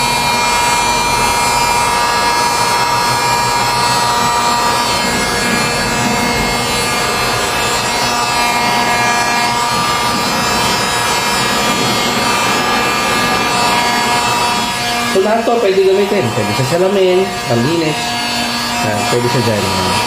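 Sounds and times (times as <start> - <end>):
heat gun fan whirring: 0.0 - 20.0.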